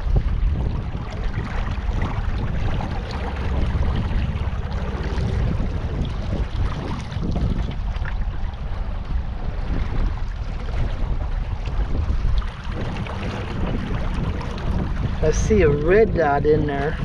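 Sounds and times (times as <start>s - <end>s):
water noise: 0.0s - 17.0s
wind buffeting microphone: 0.0s - 17.0s.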